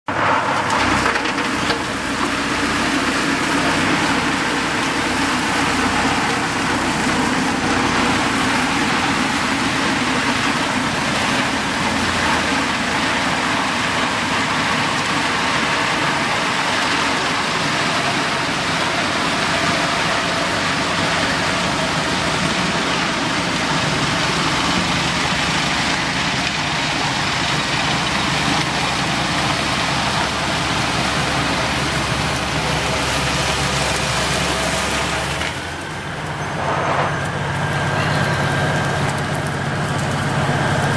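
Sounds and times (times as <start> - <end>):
snow blower throwing snow: 0.1 - 40.9
truck engine idling: 0.1 - 40.9.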